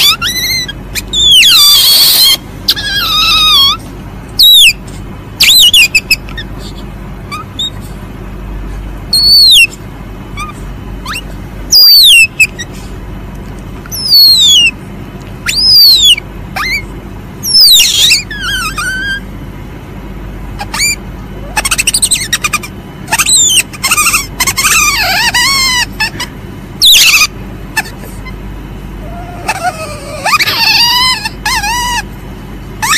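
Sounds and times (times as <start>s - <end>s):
civet squealing: 0.0s - 4.8s, 5.4s - 7.8s, 9.1s - 12.8s, 13.9s - 14.8s, 15.4s - 19.4s, 20.6s - 28.4s, 29.0s - 32.1s.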